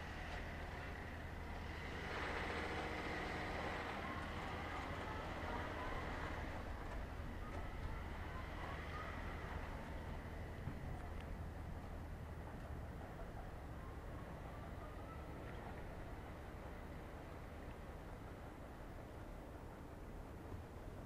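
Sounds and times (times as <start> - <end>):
distant machinery drone: 0.0 - 21.0.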